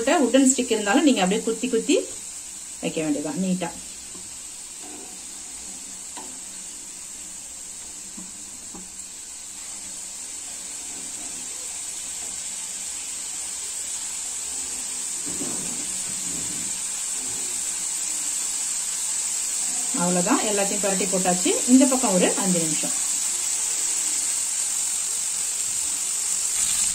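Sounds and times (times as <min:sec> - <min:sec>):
chicken sizzling in oil: 0:00.0 - 0:26.9.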